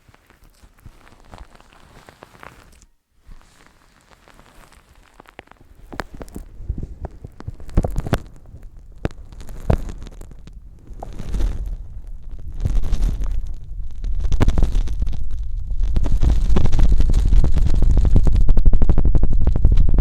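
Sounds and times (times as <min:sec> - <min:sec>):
fingers rubbing wet microphone: 0:00.0 - 0:20.0.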